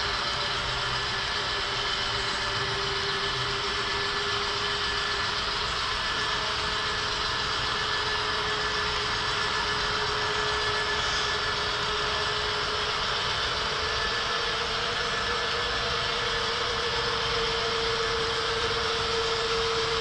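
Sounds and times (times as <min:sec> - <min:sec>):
faint constant whine: 0:00.0 - 0:20.0
model locomotive engine sound: 0:00.0 - 0:20.0.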